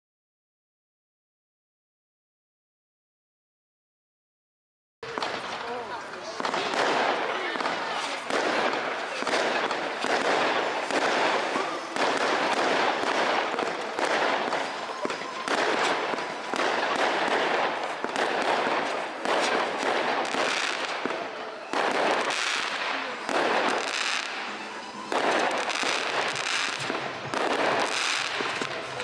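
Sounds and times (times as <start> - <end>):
fireworks bangs: 5.0 - 29.0
fireworks crackling: 5.0 - 29.0.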